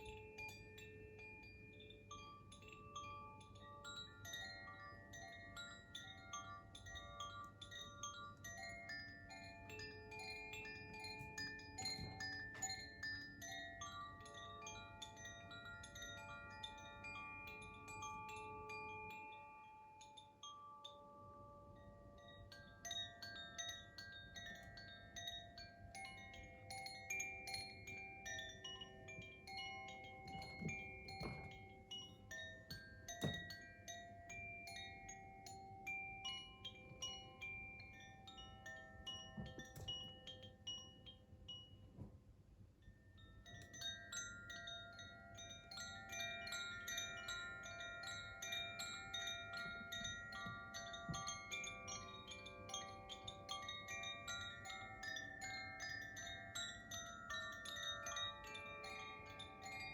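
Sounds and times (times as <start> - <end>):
wind chime ringing: 0.0 - 59.9.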